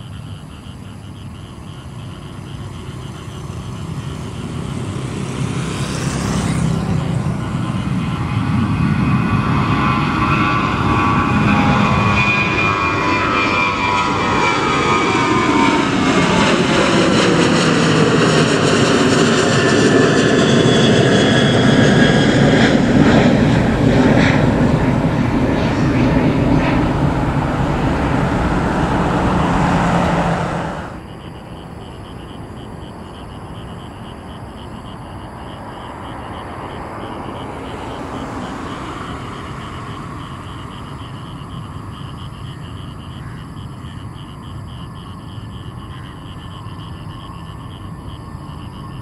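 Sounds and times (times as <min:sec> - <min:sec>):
distant rumble: 0:00.0 - 0:43.2
jet engine roar passing overhead: 0:00.0 - 0:49.0.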